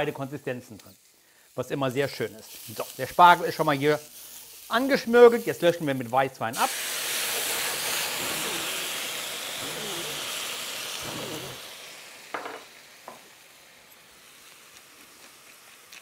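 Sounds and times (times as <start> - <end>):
wine sizzling in a hot pan: 0.0 - 16.0.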